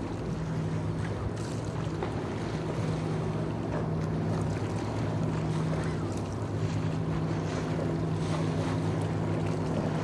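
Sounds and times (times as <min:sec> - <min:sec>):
ship machinery humming: 0:00.0 - 0:10.0.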